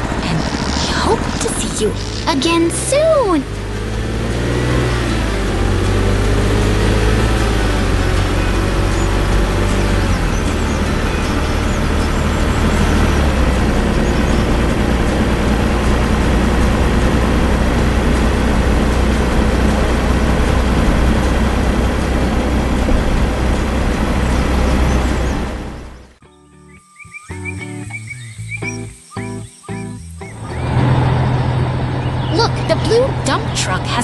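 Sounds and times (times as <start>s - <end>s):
heavy vehicle engine rumble: 0.0s - 26.2s, 27.5s - 34.0s.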